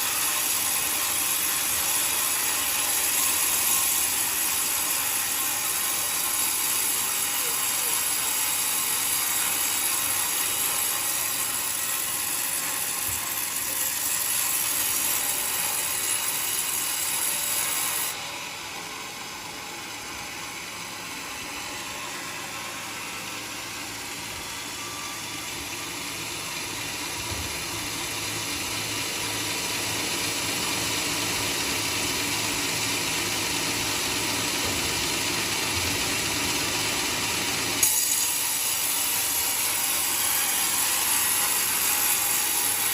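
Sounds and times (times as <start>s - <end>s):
sawmill cutting wood: 0.0s - 42.9s.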